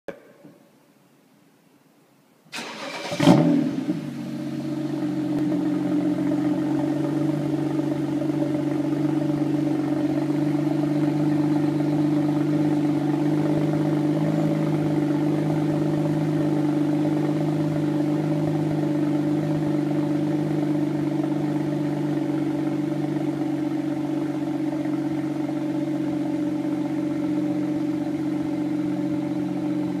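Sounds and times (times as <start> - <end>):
car engine idling: 2.5 - 30.0.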